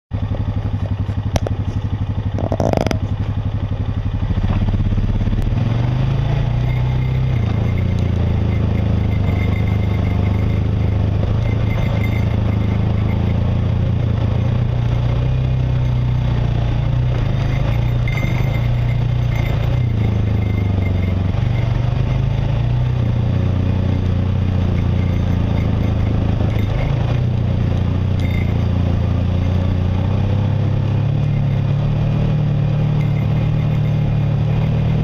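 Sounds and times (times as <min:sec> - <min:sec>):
off-road vehicle engine running: 0:00.1 - 0:35.0.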